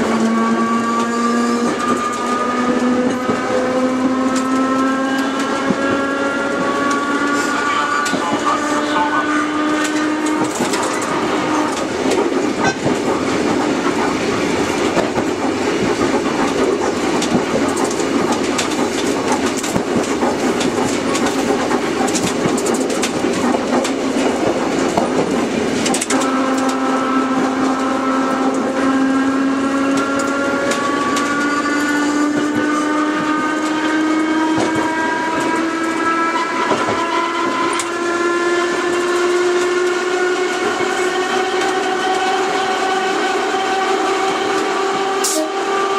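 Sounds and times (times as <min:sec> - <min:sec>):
rail clicks: 0:00.0 - 0:45.9
traction motor whine: 0:00.0 - 0:45.9
train rumbling on rails: 0:00.0 - 0:45.9.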